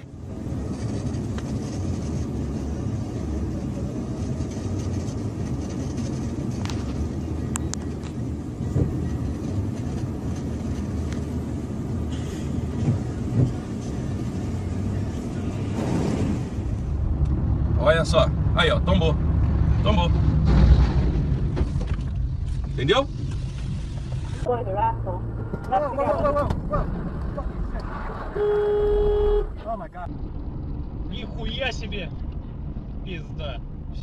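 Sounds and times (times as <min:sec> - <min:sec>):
truck engines rumbling: 0:00.0 - 0:34.0.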